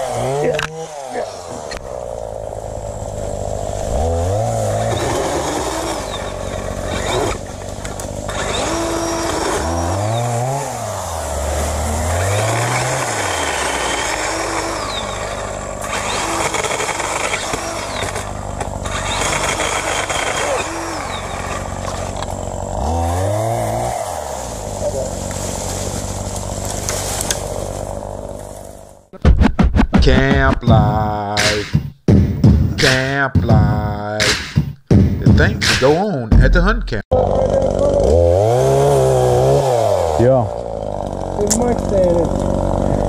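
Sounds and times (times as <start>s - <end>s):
chainsaw idling and revving: 0.0s - 29.1s, 37.1s - 43.0s.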